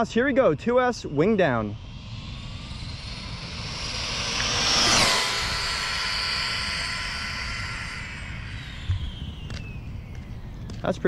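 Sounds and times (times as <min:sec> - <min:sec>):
electric motor whining: 0:01.6 - 0:11.0.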